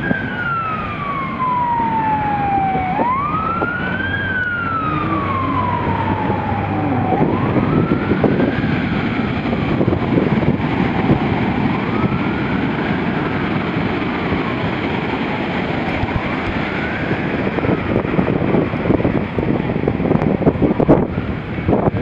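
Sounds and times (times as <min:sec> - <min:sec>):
siren wailing: 0:00.0 - 0:22.0
wind on microphone: 0:00.0 - 0:22.0.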